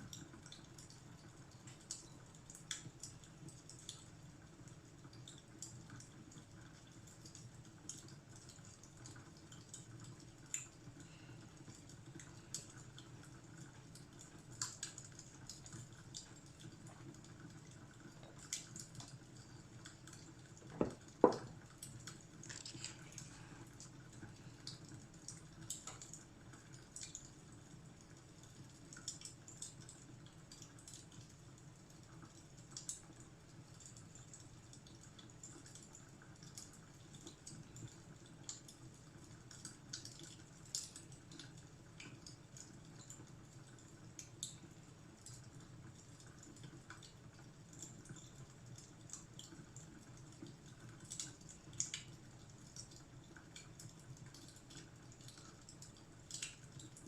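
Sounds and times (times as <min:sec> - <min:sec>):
wood fire crackling faintly: 0:00.0 - 0:57.0.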